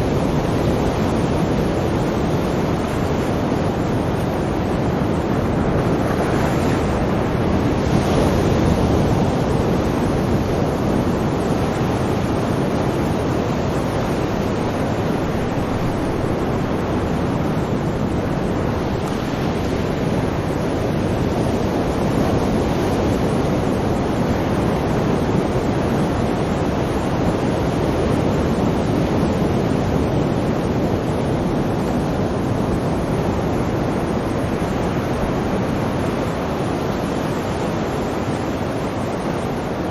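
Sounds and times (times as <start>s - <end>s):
sea waves and surf washing: 0.0s - 39.9s.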